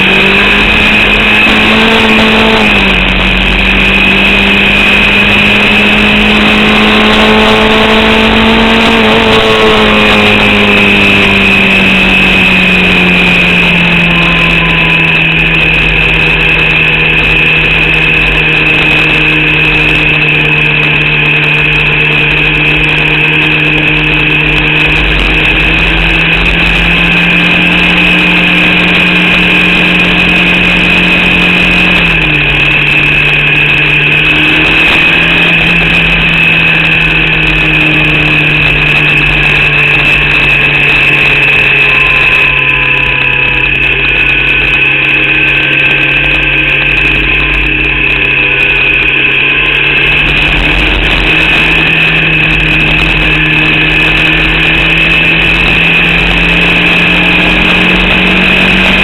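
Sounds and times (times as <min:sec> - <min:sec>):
race car engine running hard: 0:00.0 - 0:59.0
steady high whine: 0:00.0 - 0:59.0.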